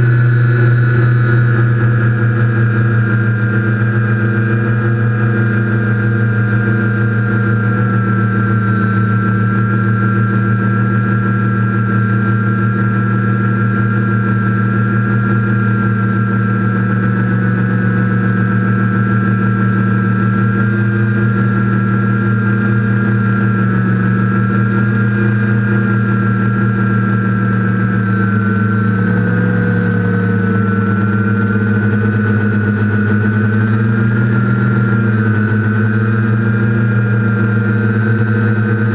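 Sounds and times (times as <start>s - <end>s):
quadcopter propellers humming: 0.0s - 38.9s.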